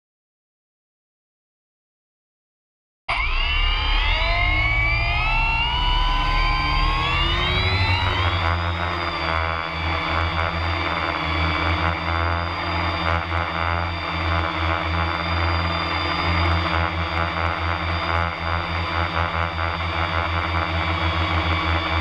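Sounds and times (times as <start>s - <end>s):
drone motors and propellers whining: 3.1s - 22.0s.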